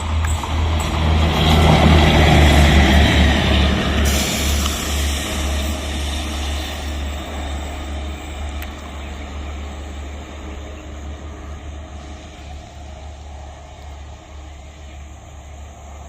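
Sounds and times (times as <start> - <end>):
passenger train rumbling past: 0.0 - 16.0.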